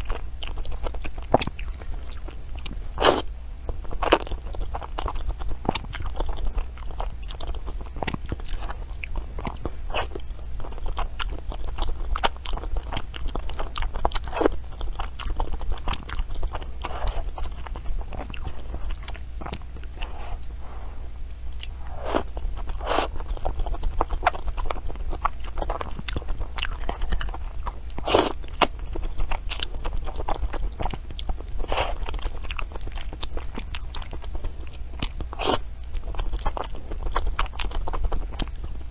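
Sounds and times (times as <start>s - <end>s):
crunchy food being chewed: 0.0s - 38.9s
steady low hum: 0.0s - 38.9s.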